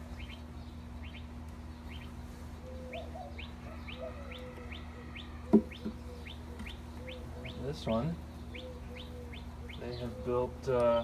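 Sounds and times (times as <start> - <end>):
lower bird calls: 0.0 - 11.0
small bird chirping: 0.0 - 11.0
steady low hum: 0.0 - 11.0.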